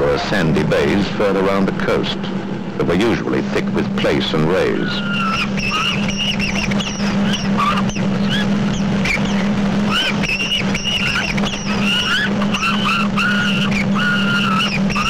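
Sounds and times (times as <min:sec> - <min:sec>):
boat engine drone: 0:00.0 - 0:15.0
gulls screeching: 0:00.0 - 0:15.0.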